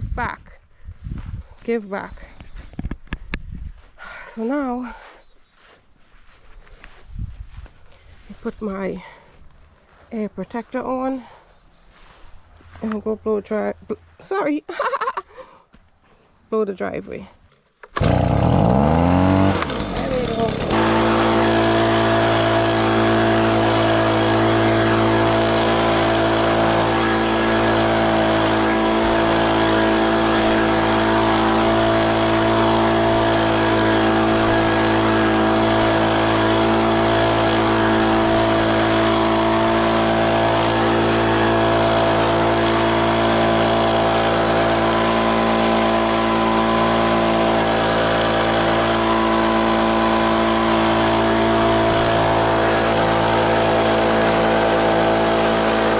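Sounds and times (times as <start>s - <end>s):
leaf blower running: 1.2s - 14.2s, 17.5s - 55.9s.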